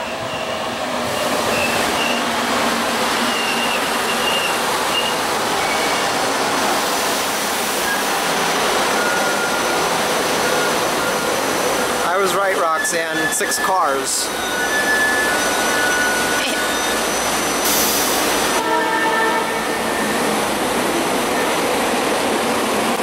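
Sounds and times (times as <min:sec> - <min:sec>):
train wheels rushing on rail: 0:00.0 - 0:23.0.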